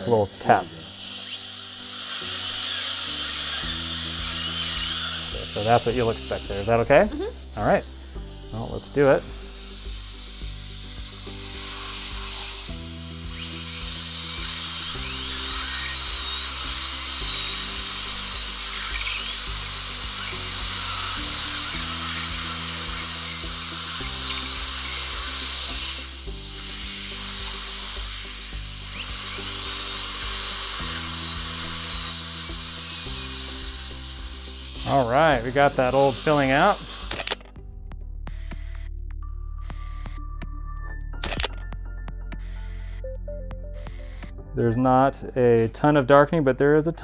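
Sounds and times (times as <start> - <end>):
dental drill whining: 0.0 - 44.4.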